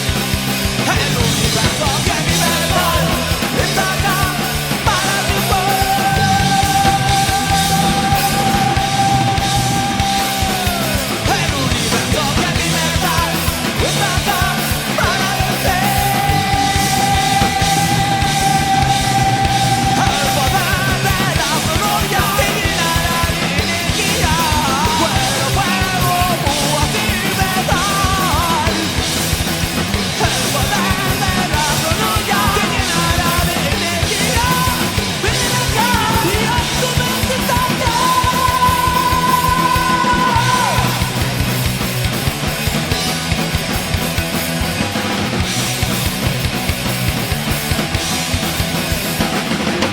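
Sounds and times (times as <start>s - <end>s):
heavy metal band playing: 0.0s - 49.9s.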